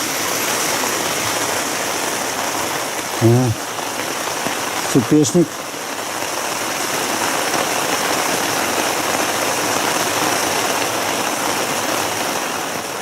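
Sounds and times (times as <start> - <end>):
campfire crackling and hissing: 0.0 - 13.0.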